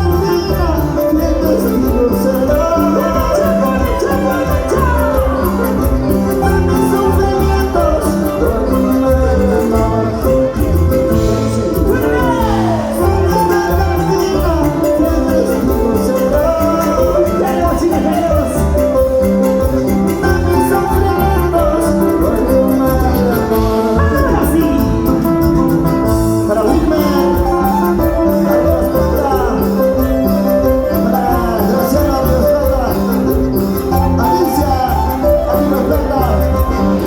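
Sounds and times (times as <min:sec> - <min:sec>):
latin band music with singing: 0:00.0 - 0:37.0.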